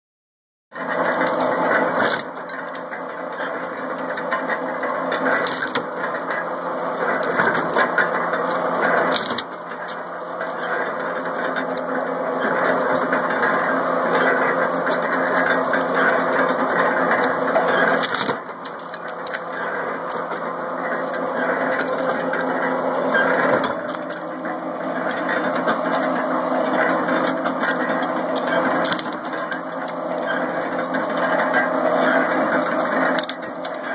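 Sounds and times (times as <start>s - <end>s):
metal shear mechanical drone: 0.8s - 33.9s.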